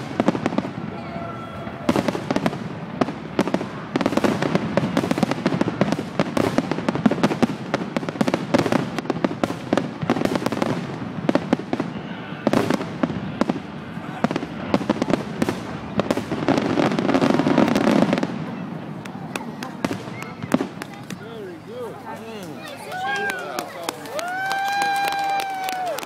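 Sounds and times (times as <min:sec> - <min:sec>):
fireworks bursting with bangs and crackles: 0:00.0 - 0:26.0.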